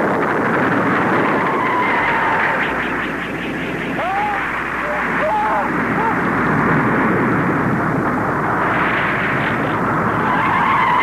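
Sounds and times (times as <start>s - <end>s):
explosion and fire roar: 0.0s - 11.0s.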